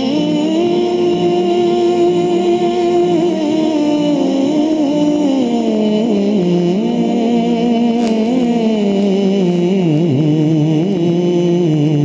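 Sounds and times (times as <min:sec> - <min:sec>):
man singing devotional song: 0:00.0 - 0:12.0.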